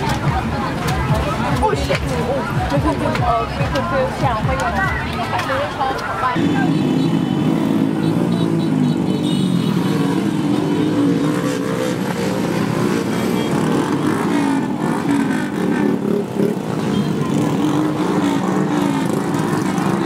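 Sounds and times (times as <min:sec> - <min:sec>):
vehicle engine noise: 0:00.0 - 0:20.0
voices: 0:00.0 - 0:20.0.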